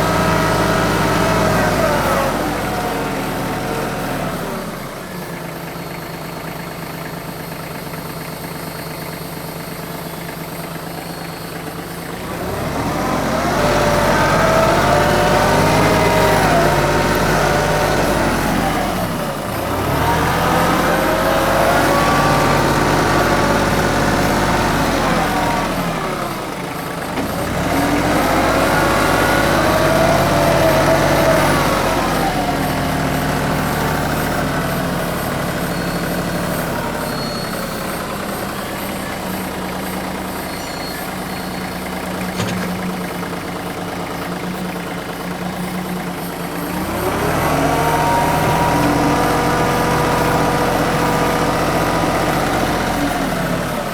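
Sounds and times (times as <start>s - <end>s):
tractor diesel engine: 0.0s - 53.9s.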